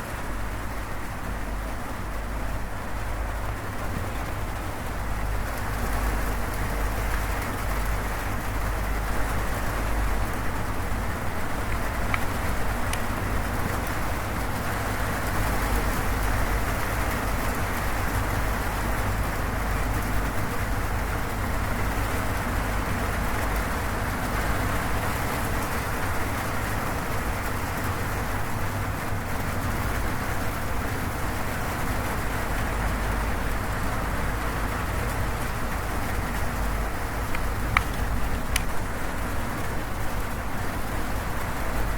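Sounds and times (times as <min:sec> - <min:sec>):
heavy rain on a metal roof: 0:00.0 - 0:41.9.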